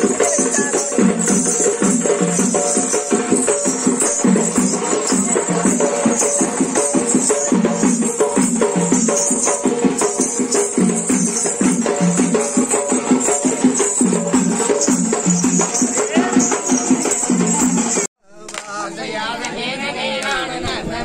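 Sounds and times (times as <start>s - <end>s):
fast folk dance music: 0.0s - 18.1s
jingling bells: 0.0s - 18.1s.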